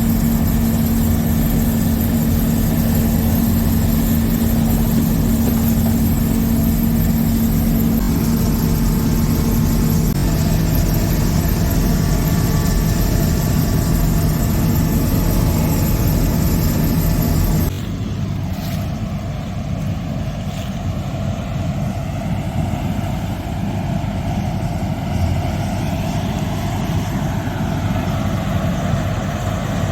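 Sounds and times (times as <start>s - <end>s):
diesel engine droning: 0.0s - 29.9s.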